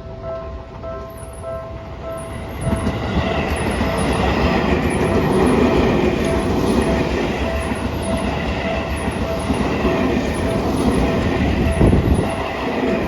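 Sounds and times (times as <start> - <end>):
crossing warning bell ringing: 0.0 - 13.0
train running over crossing: 0.0 - 13.0.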